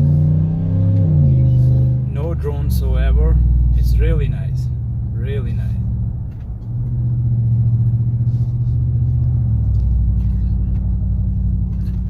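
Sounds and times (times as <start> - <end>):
truck engine rumbling loudly: 0.0 - 12.0.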